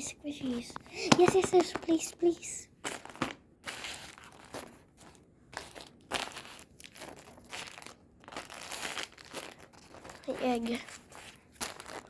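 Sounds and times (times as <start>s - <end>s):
squishies crinkling and rustling: 0.0s - 12.0s.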